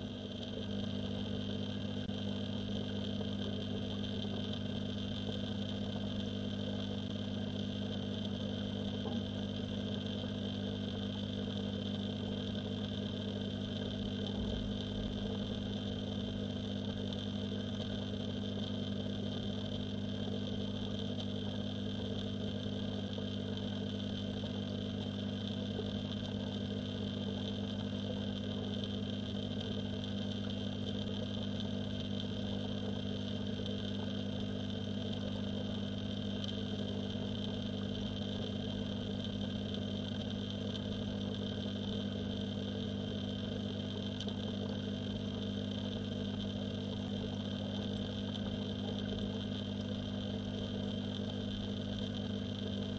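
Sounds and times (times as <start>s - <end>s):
pond pump humming underwater: 0.0s - 52.9s.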